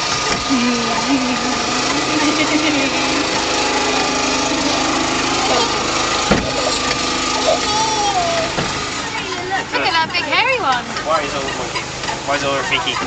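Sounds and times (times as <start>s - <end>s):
ride train motor drone: 0.0s - 13.0s.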